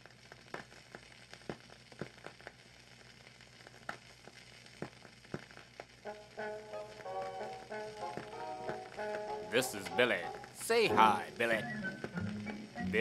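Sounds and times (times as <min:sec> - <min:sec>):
faint steady hiss: 0:00.0 - 0:13.0
record pops and clicks: 0:00.0 - 0:13.0.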